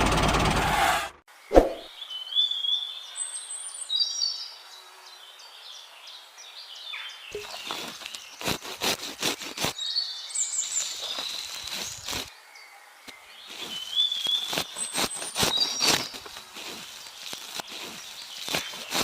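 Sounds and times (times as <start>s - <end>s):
small birds chirping: 1.3s - 19.0s.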